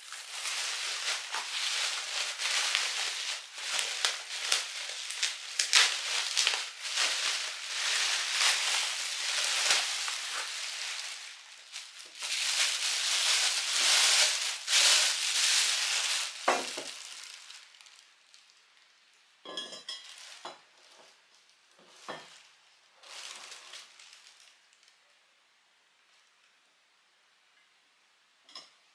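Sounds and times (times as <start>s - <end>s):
bubble wrap crinkling: 0.0s - 18.6s, 20.0s - 25.0s.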